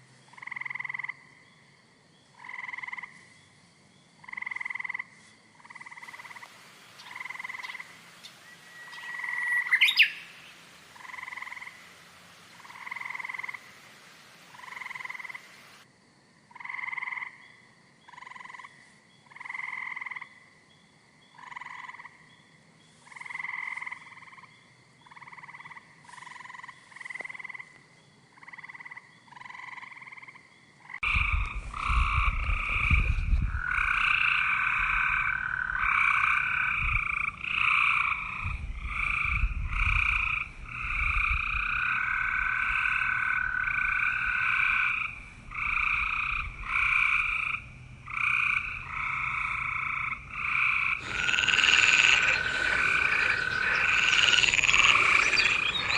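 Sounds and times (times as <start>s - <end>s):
frogs croaking: 0.0s - 55.9s.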